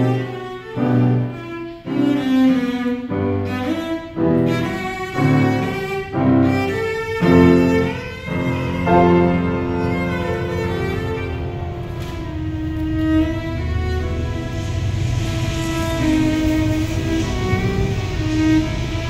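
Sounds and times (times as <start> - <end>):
bowed cello melody: 0.0 - 19.0
piano accompaniment: 0.0 - 19.0.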